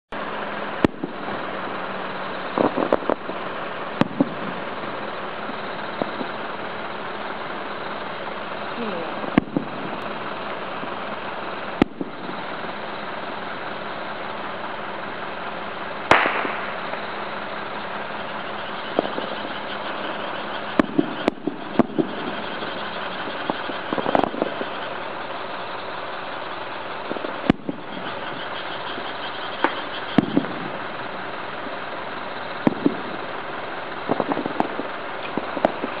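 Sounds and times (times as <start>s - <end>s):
firework shells bursting: 0.1s - 36.0s
steady background noise: 0.1s - 36.0s.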